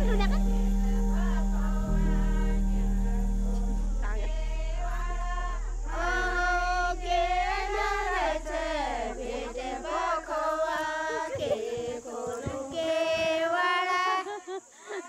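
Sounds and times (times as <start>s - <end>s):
low steady hum: 0.0s - 12.1s
choir singing held notes: 0.0s - 14.0s.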